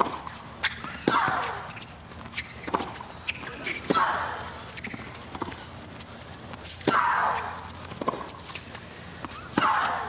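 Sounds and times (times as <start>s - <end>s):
tennis ball hitting racket: 0.0s - 5.6s, 6.6s - 8.6s, 9.2s - 10.0s.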